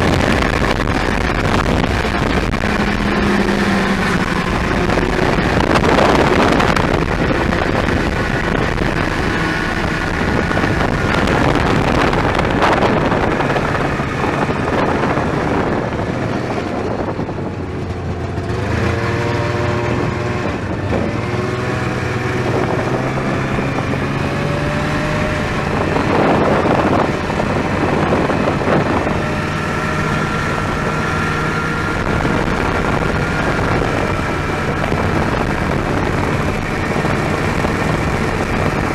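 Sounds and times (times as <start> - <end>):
snowmobile two-stroke engine: 0.0 - 38.9
wind buffeting microphone: 0.0 - 38.9.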